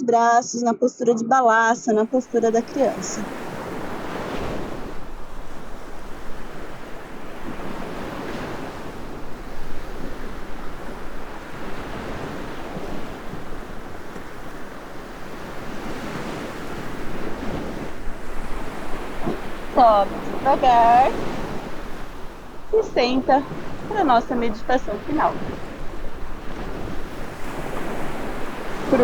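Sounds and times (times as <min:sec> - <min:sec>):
ocean waves breaking: 0:02.1 - 0:29.0
wind on microphone: 0:02.2 - 0:29.0.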